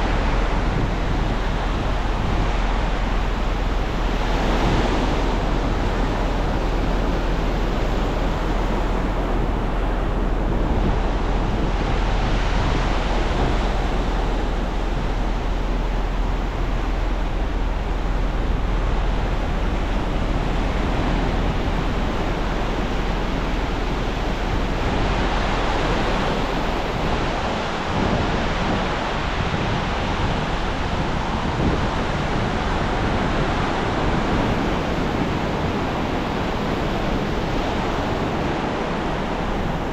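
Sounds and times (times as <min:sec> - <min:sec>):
ocean surf washing onto beach: 0:00.0 - 0:39.9
wind rumbling on microphone: 0:00.0 - 0:39.9.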